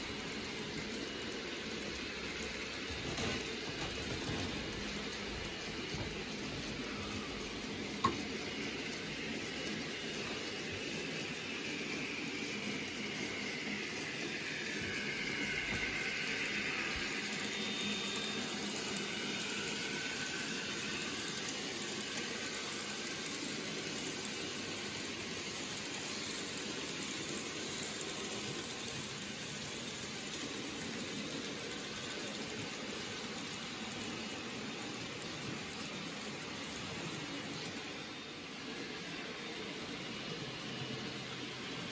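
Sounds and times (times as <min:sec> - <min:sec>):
model train running on track: 0:00.0 - 0:41.9.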